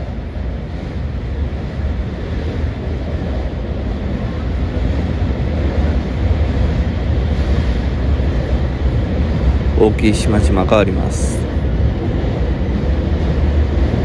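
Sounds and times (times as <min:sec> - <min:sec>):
train rumbling over bridge: 0:00.0 - 0:14.0.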